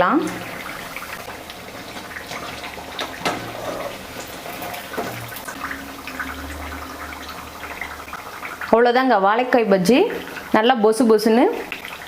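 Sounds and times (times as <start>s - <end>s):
batter deep-frying in oil: 0.0s - 12.0s.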